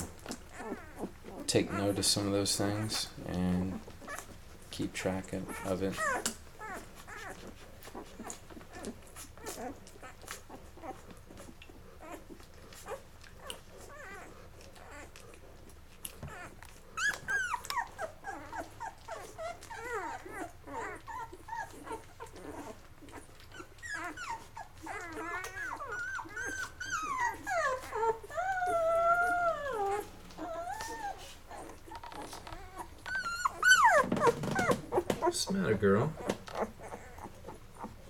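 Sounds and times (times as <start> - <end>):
puppies whimpering and squealing: 0.0 - 38.0.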